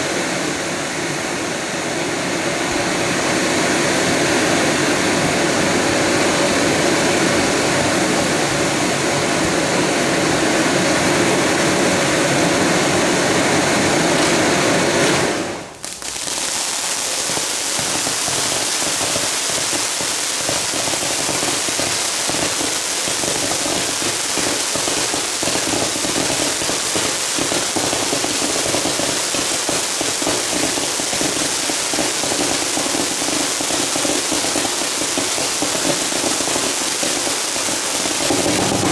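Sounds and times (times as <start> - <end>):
crackle of small firework bursts: 0.0 - 38.9
fireworks rushing hiss: 0.0 - 38.9.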